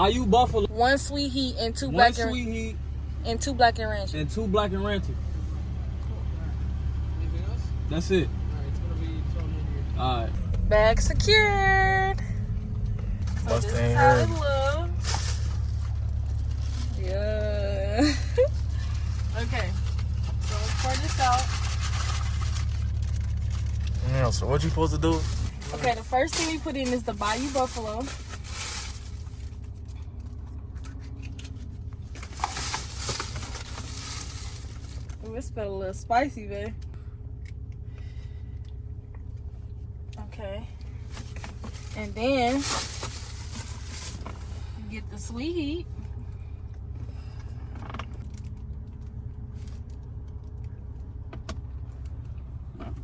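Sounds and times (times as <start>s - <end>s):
car engine running: 0.0s - 53.0s
steady low hum: 0.0s - 53.0s.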